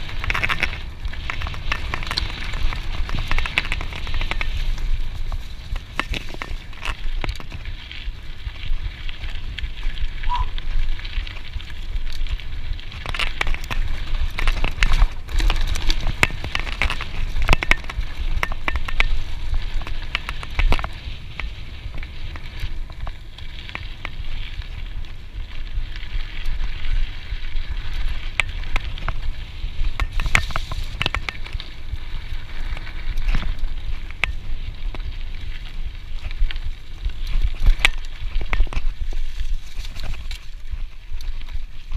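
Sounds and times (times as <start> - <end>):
bike knocking and rattling: 0.0 - 41.9
bike tyres crunching leaves: 0.0 - 41.9
wind rumble on microphone: 0.0 - 41.9.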